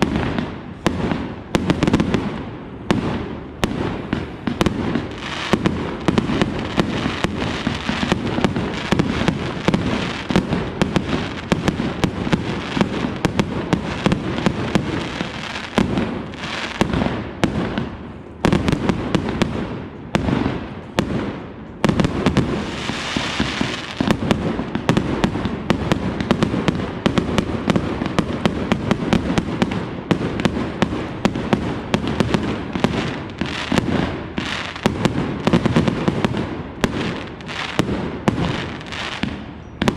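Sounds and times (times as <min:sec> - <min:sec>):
rapid firework bangs: 0:00.0 - 0:39.9.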